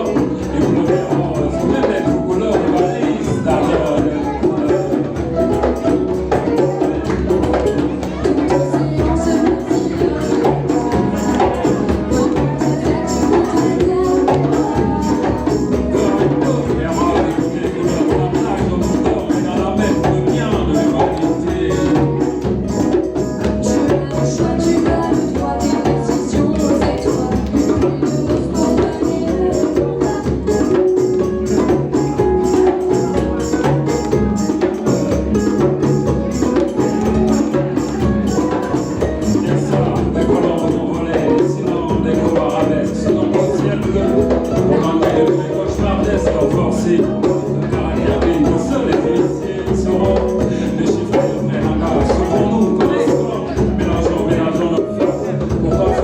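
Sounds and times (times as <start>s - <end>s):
live band playing instrumental music: 0.0s - 56.0s
steady percussion beat: 0.0s - 56.0s.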